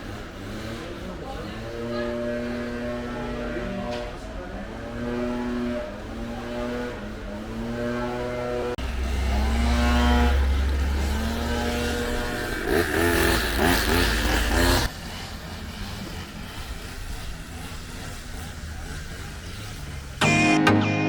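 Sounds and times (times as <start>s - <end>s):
engine with gliding pitch: 0.0s - 20.5s.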